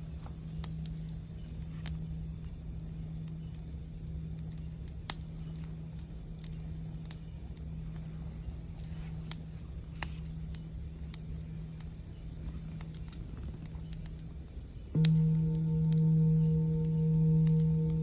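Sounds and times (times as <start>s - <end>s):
singing bowl humming: 0.0s - 12.9s, 14.9s - 18.0s
campfire crackling and popping: 0.0s - 18.0s.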